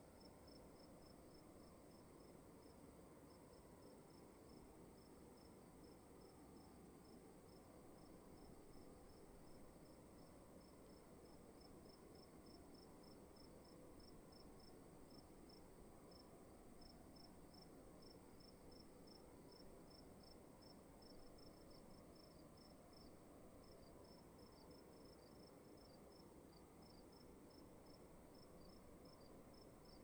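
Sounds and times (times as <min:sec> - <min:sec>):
soft low hiss: 0:00.0 - 0:30.0
cricket chirping: 0:00.1 - 0:30.0.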